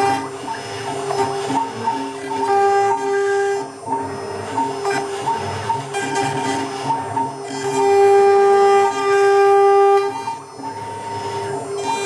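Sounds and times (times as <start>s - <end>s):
spindle cutting noise: 0.0s - 12.0s
stepper motor pitched tones: 0.0s - 12.0s.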